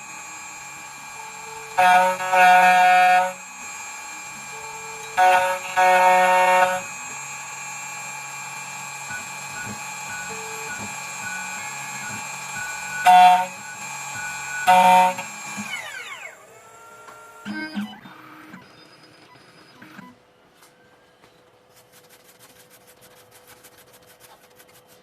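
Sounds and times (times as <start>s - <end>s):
key cutting machine whine: 0.0s - 20.1s.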